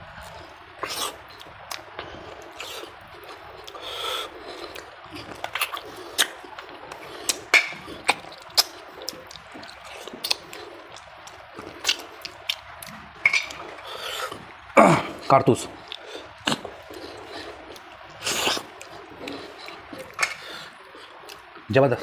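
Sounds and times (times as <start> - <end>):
wet chewing and lip smacks: 0.1 - 21.7.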